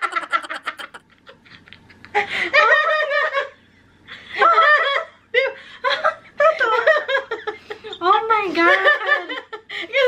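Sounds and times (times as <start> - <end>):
women laughing: 0.0 - 10.0.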